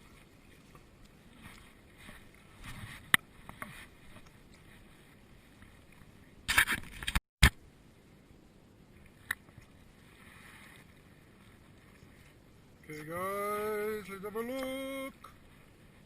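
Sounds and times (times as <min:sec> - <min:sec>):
water sloshing: 0:00.0 - 0:07.2, 0:08.9 - 0:16.0.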